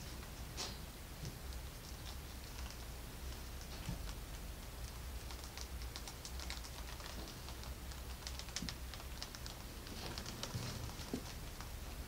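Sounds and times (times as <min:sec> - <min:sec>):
rats crunching dry food: 0:01.4 - 0:12.0.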